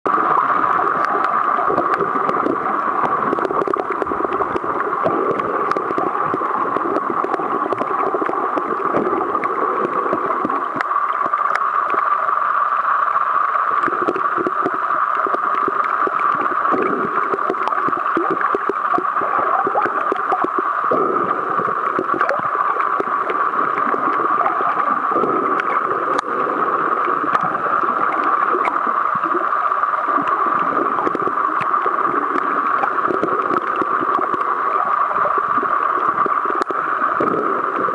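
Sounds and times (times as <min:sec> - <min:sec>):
steady underwater hum: 0:00.0 - 0:37.9.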